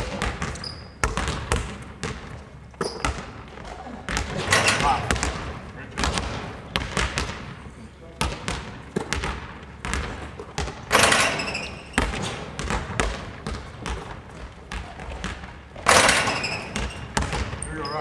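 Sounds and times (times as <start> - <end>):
basketballs bouncing on wooden floor: 0.0 - 18.0.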